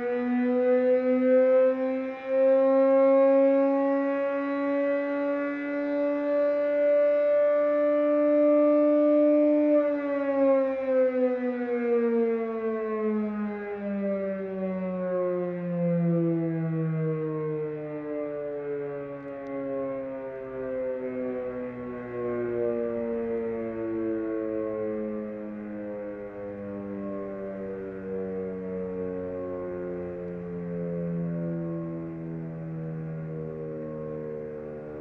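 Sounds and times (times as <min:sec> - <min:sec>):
warning siren low wail: 0:00.0 - 0:35.0.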